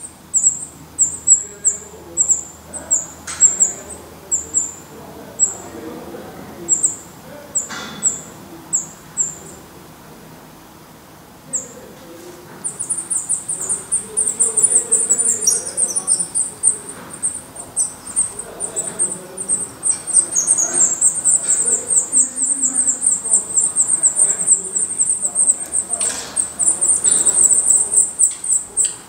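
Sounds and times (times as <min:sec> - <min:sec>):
thin high chirps: 0:00.0 - 0:05.7, 0:06.7 - 0:09.5, 0:12.6 - 0:29.0
nestlings begging calls: 0:00.0 - 0:10.2, 0:11.4 - 0:29.0.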